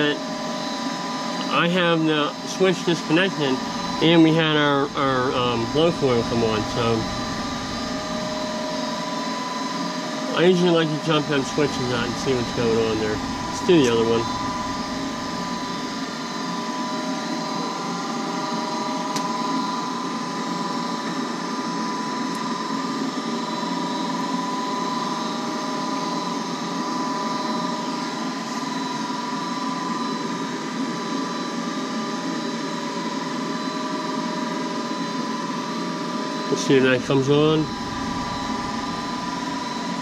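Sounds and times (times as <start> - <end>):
furnace fan motor humming: 0.0 - 40.0.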